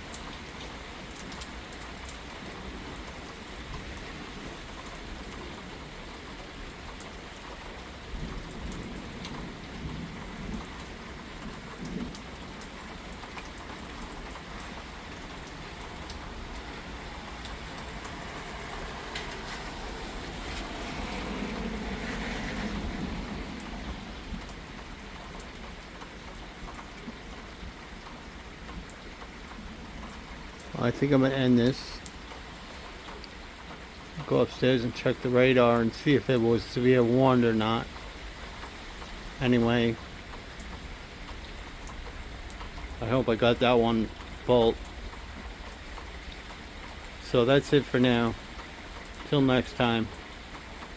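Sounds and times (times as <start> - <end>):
raindrop ticks: 0.0 - 50.9
steady rain falling: 0.0 - 50.9.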